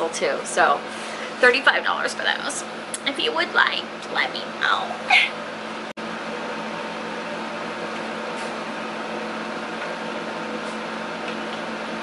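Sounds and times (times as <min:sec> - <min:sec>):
steady mechanical hum with hiss: 0:00.0 - 0:12.0.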